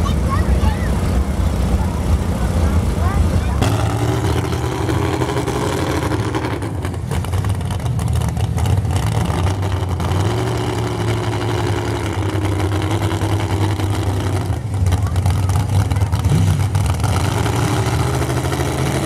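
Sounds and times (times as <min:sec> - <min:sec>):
truck engine running loud: 0:00.0 - 0:19.0.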